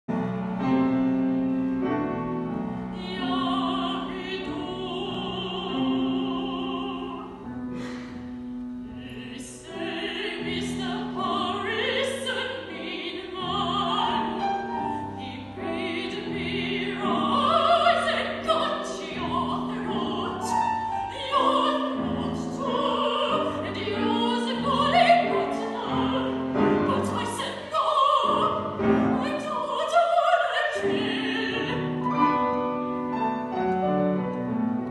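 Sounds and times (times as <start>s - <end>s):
piano: 0.0s - 34.9s
woman singing opera: 2.9s - 7.6s, 8.9s - 32.4s.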